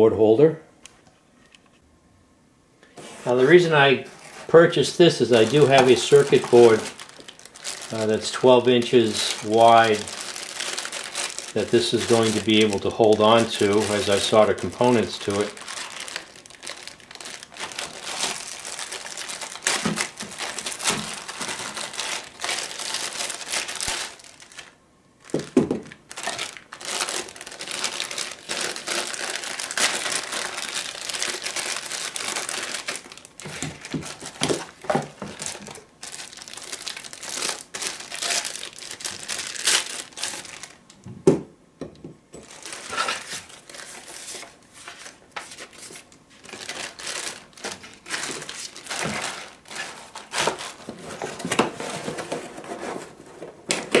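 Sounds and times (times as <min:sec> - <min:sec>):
plastic bags crinkling: 0:03.2 - 0:41.0, 0:42.4 - 0:54.0.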